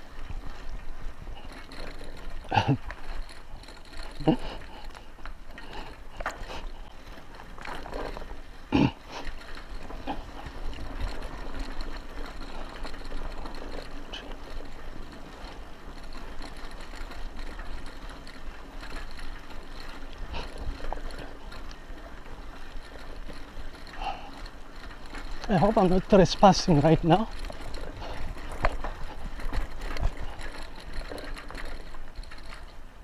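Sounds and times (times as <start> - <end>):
bicycle tyres rolling on dirt: 0.0 - 33.0
bike knocks and clicks over bumps: 0.0 - 33.0.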